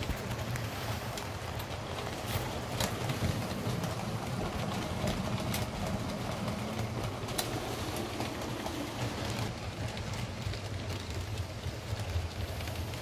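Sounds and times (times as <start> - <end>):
model train rumbling on track: 0.0 - 13.0
wheels clicking over rail joints: 0.0 - 13.0.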